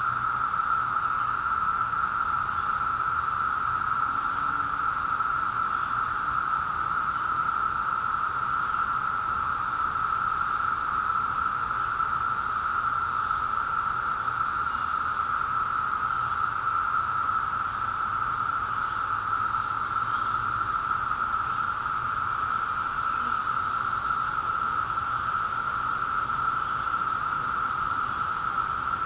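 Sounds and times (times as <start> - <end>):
cicadas droning: 0.0 - 29.0.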